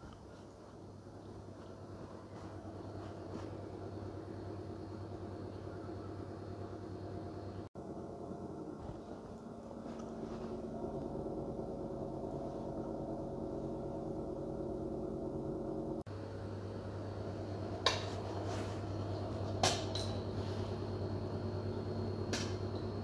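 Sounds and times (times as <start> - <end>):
vending machines humming: 0.0 - 23.0.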